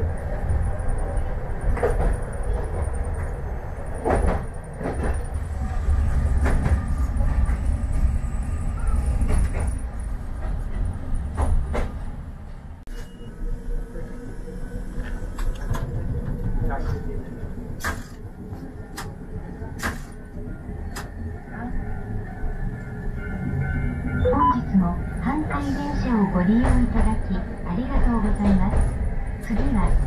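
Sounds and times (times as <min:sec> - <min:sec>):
tram rumbling on track: 0:00.0 - 0:30.0.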